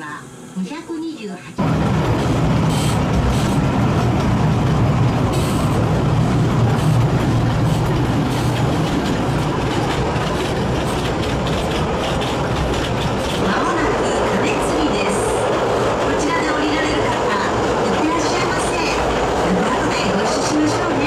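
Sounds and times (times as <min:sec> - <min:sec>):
train wheels rumbling on rails: 0:01.6 - 0:21.0.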